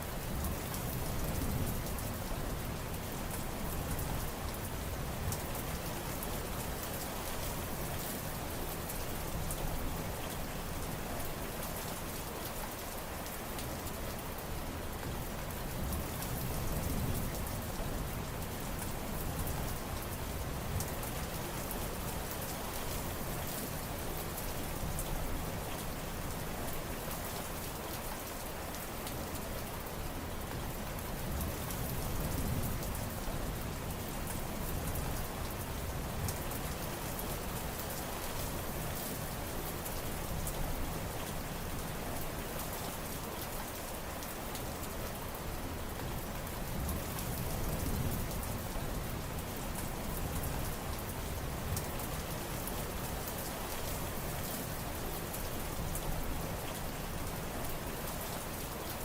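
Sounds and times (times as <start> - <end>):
heavy rain pattering: 0.0 - 59.0.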